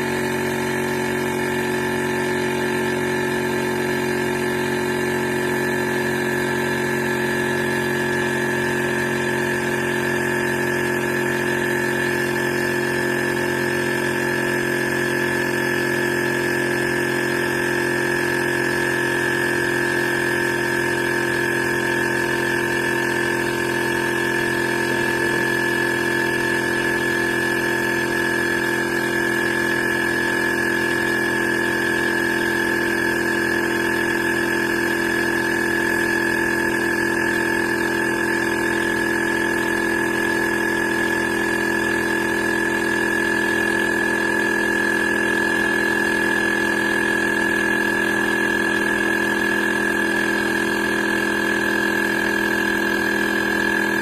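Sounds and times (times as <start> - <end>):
air compressor running: 0.0 - 54.0
high whine: 0.0 - 54.0.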